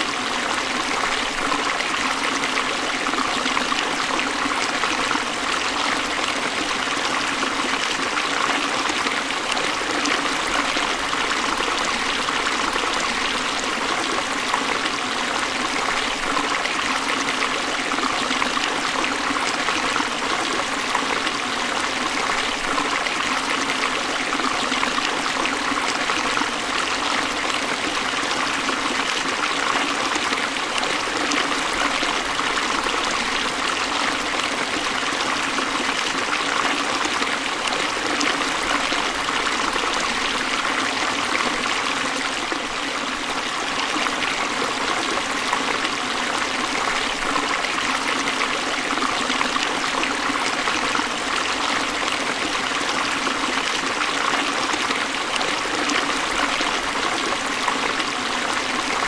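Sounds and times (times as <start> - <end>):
stream water over rocks: 0.0 - 59.0.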